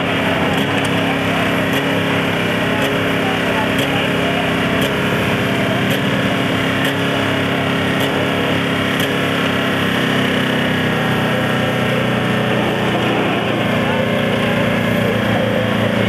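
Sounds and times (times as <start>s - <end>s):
car engine running loudly: 0.0s - 16.0s.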